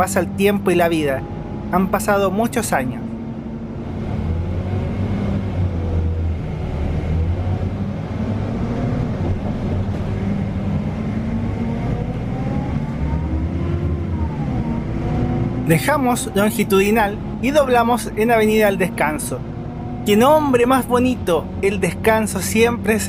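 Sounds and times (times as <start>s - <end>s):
bus diesel engine drone: 0.0s - 23.0s
drivetrain whine: 0.0s - 23.0s
road noise: 0.0s - 23.0s.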